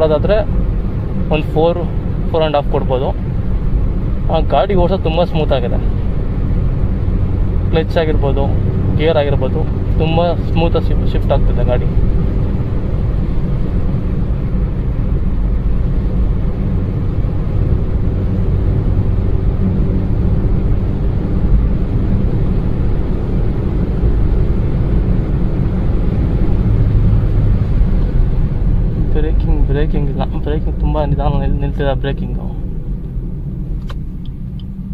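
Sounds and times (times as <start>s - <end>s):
road and engine rumble in car: 0.0s - 34.9s.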